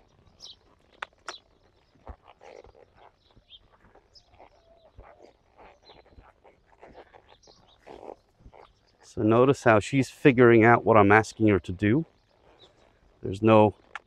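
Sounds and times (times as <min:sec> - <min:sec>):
bird chirps: 0:00.0 - 0:09.8, 0:10.6 - 0:14.0.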